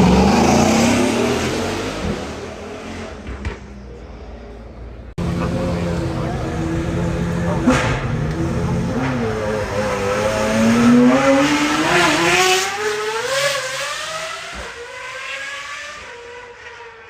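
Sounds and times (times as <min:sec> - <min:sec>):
car engine revving: 0:00.0 - 0:03.6, 0:05.2 - 0:17.0.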